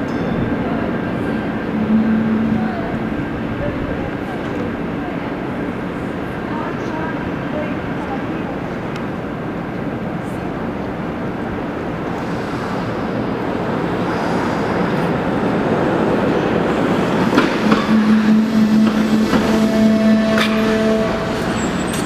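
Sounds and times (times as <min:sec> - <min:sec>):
light rail car rolling on rails: 0:00.0 - 0:22.0.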